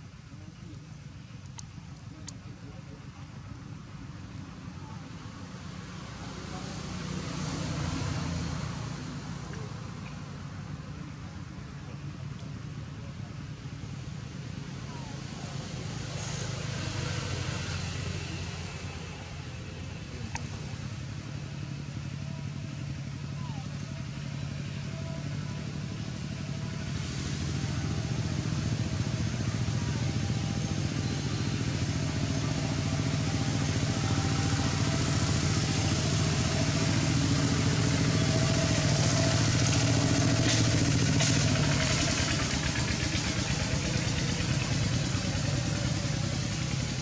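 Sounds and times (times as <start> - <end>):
motor vehicle engine running: 0.0 - 47.0.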